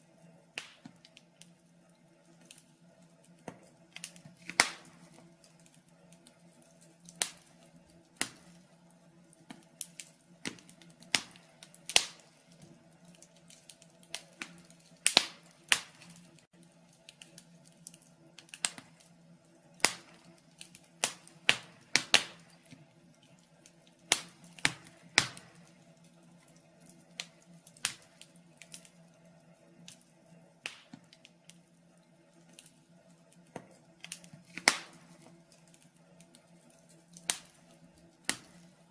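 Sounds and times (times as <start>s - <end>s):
faint steady hum: 0.0s - 38.9s
fire crackling and popping: 0.0s - 38.9s.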